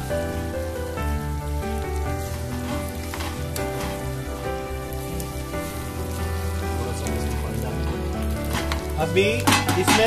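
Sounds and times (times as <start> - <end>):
background music with low beat: 0.0 - 10.0
food sizzling in a pan: 0.0 - 10.0
stirring in a pan: 0.4 - 10.0.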